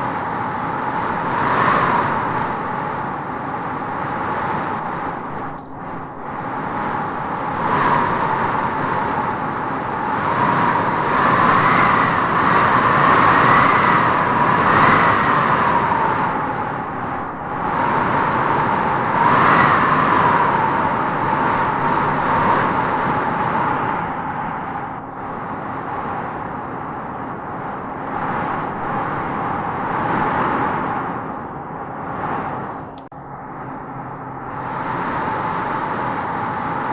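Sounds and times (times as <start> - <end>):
wind howling in gusts: 0.0 - 36.9.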